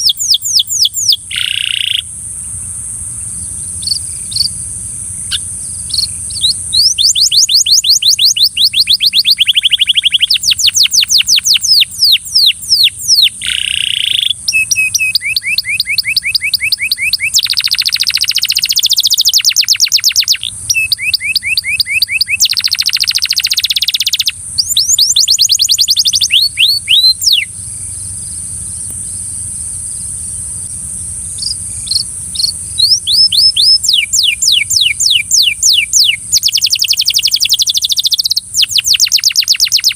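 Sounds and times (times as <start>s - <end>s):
canary singing in trills: 0.0s - 29.3s, 31.4s - 39.9s.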